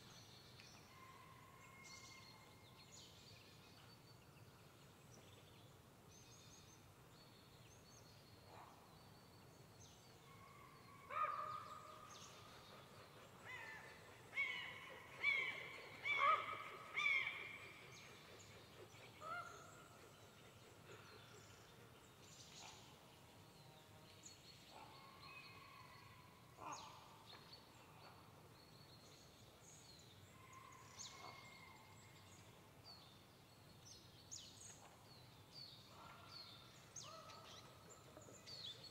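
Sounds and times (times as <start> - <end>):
quiet forest background: 0.0 - 38.9.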